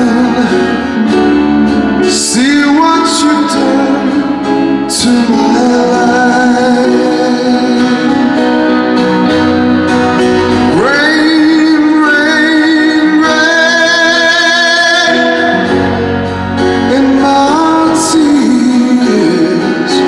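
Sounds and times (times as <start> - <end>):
rock band with guitar: 0.0 - 20.0.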